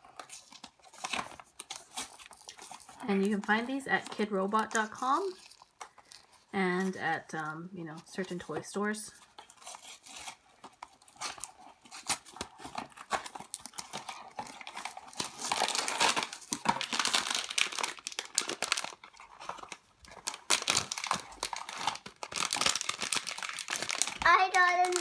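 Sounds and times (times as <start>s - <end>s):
plastic bag crinkling: 0.0s - 7.4s, 9.1s - 25.0s.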